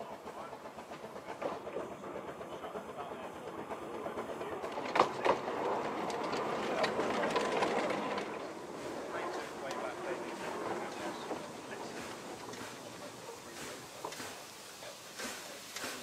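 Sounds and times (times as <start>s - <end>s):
steam locomotive running past: 0.0s - 16.0s
sharp clacks: 0.3s - 14.5s.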